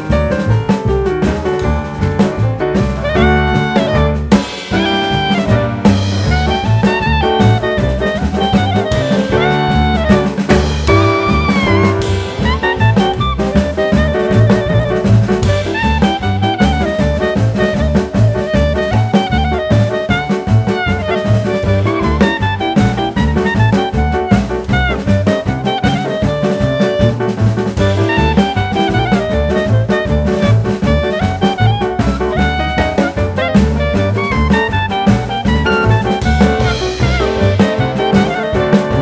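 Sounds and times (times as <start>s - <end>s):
instrumental jazz music: 0.0s - 39.0s.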